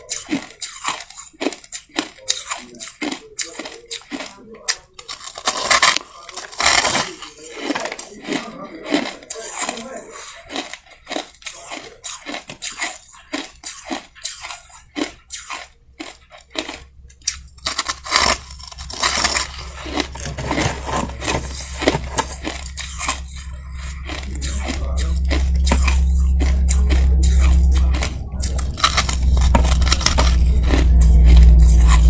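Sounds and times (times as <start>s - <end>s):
ice crunching between teeth: 0.0s - 32.0s
low steady hum: 0.0s - 32.0s.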